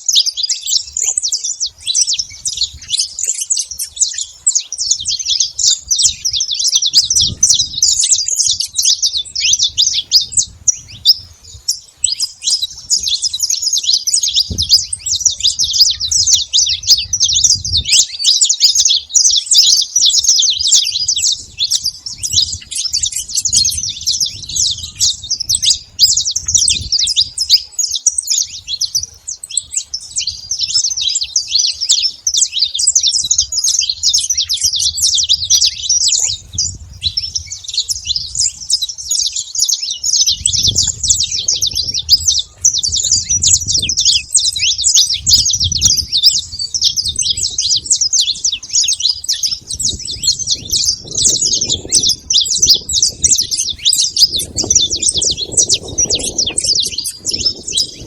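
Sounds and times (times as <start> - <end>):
finches chirping and singing: 0.0 - 58.0.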